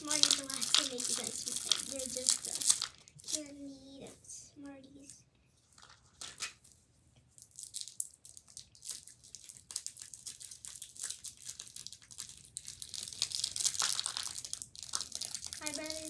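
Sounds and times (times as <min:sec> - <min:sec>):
candy wrappers crinkling: 0:00.0 - 0:03.6, 0:05.0 - 0:16.0.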